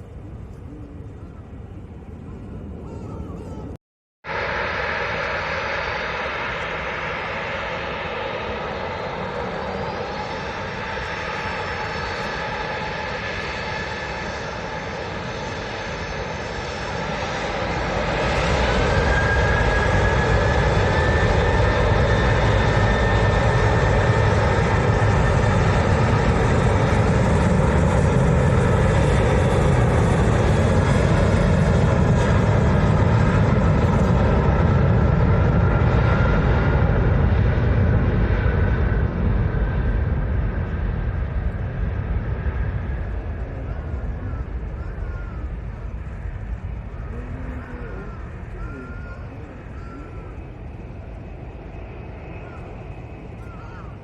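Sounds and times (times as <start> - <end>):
jet engine whine: 0.0 - 54.0
jet engines running: 0.0 - 54.0.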